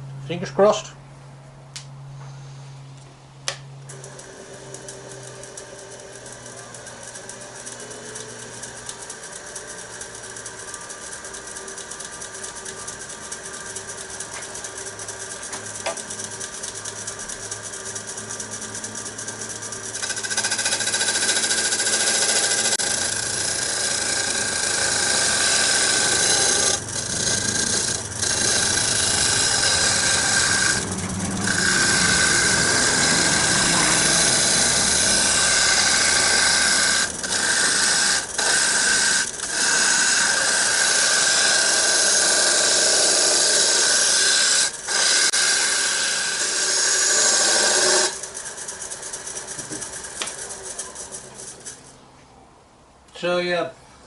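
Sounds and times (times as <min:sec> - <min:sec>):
lathe motor hum: 0:03.5 - 0:52.0
lathe tool scraping wood: 0:03.9 - 0:52.0.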